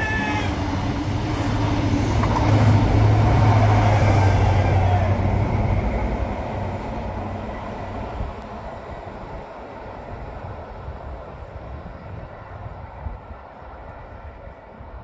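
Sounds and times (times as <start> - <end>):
train passing with low drone: 0.0 - 15.0.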